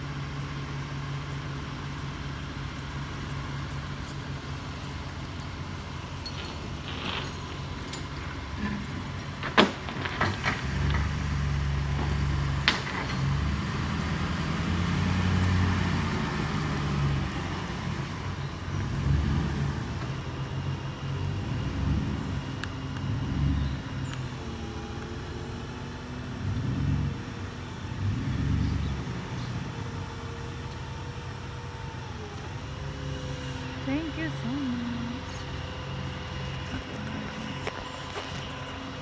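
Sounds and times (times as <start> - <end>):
pickup truck driving slowly: 0.0 - 39.0.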